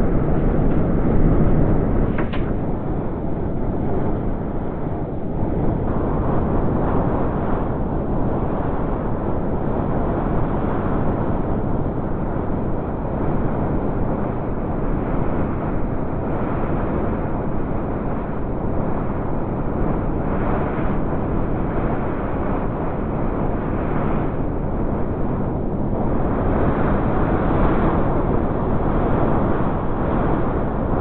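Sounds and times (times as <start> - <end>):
blizzard wind blowing: 0.0 - 31.0.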